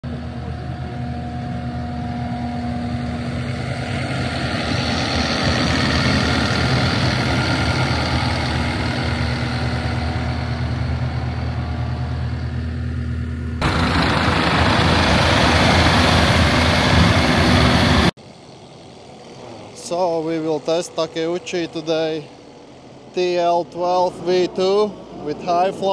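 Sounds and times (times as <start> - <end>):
diesel engine hum: 0.0 - 25.9
hydraulic grinder rushing noise: 0.1 - 25.9.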